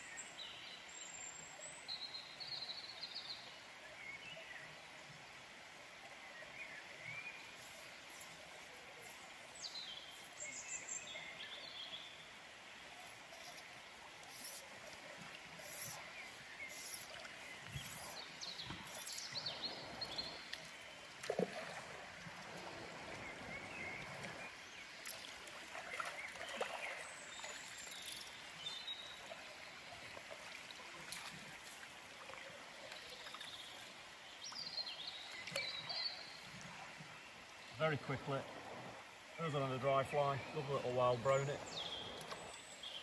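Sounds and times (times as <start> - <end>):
flowing river water: 0.0 - 43.0.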